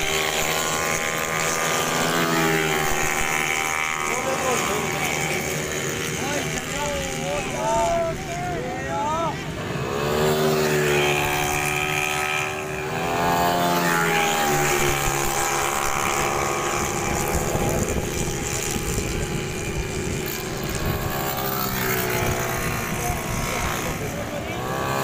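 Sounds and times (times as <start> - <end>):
scooter engines revving high: 0.0 - 25.0.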